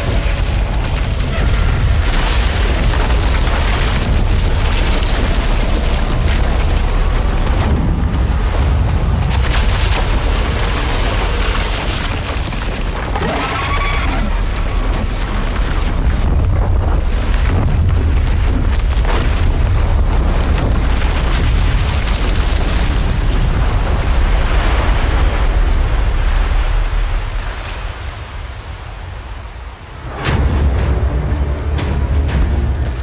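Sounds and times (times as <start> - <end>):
deep rumble of crashing ice: 0.0 - 30.8
rushing blast of fire: 0.0 - 30.8.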